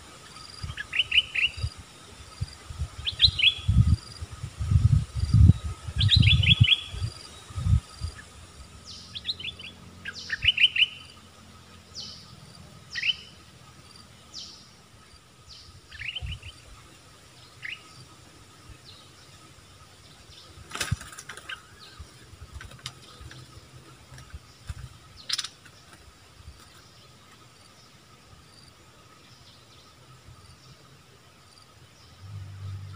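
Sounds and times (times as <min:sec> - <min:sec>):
bulbuls chirping: 0:00.0 - 0:32.9.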